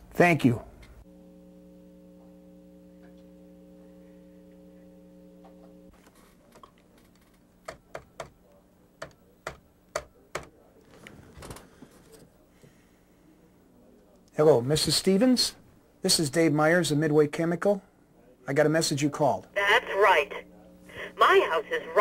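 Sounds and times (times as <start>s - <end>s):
steady low hum: 0.0s - 14.3s, 17.8s - 22.0s.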